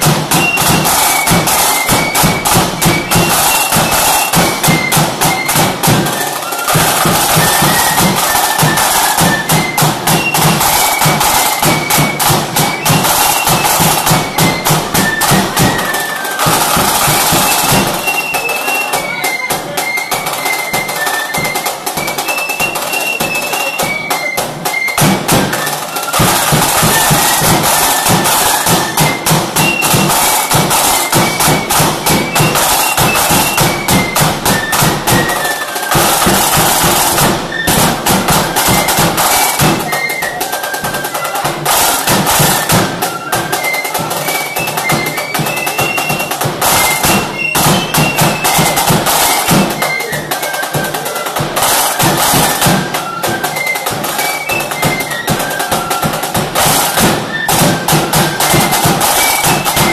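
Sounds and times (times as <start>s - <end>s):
flute melody: 0.0s - 59.9s
snare drum rolls: 0.0s - 59.9s.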